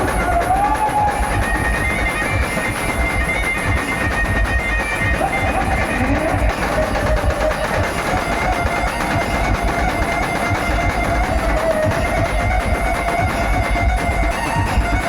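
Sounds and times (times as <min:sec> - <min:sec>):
heavy steady drum beats: 0:00.0 - 0:15.0.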